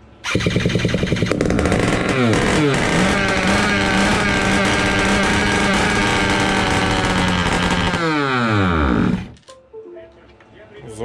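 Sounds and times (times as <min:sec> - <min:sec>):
two-stroke engine revving: 0:00.2 - 0:09.4.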